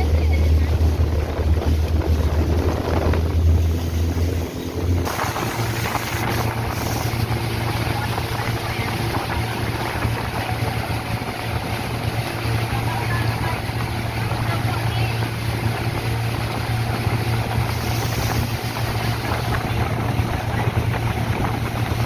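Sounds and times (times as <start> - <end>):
boat engine running: 0.0 - 22.0
rush of wind and water: 0.0 - 22.0.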